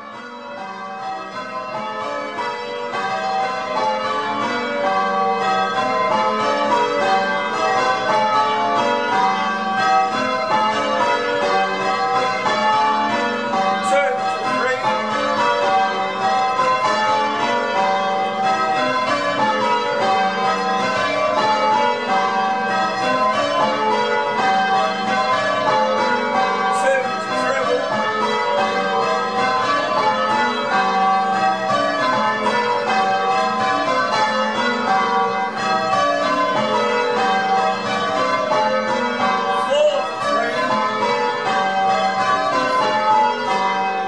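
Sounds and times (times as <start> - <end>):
church bells ringing: 0.0 - 44.0.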